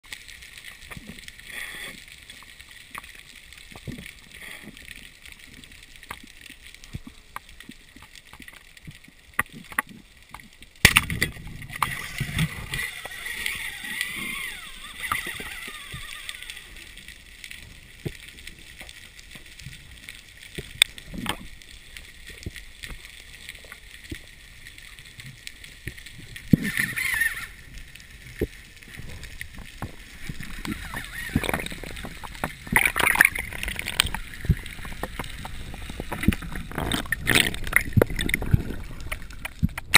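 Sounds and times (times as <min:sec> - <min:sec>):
snapping shrimp crackle underwater: 0:00.0 - 0:39.9.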